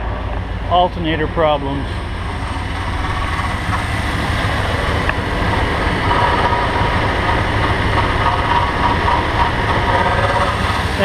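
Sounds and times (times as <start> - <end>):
alternator grinding: 0.0 - 11.0
vehicle engine running: 0.0 - 11.0.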